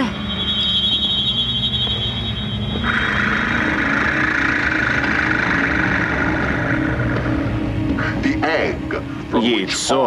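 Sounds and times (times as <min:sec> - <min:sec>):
synthesizer chords over drone: 0:00.0 - 0:10.0.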